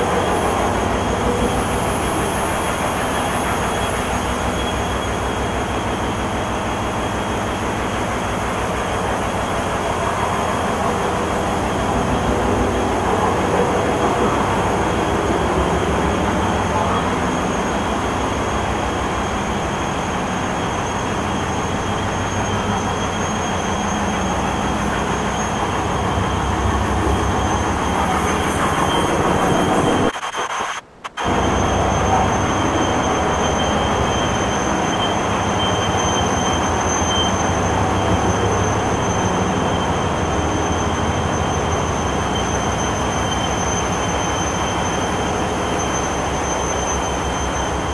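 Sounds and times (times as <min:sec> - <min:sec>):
diesel generators droning: 0:00.0 - 0:47.9
high whine: 0:00.0 - 0:47.9.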